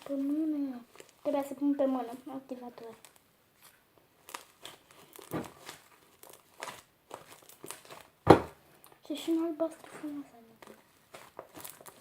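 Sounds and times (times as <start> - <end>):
slime squelching in hands: 0.0 - 12.0.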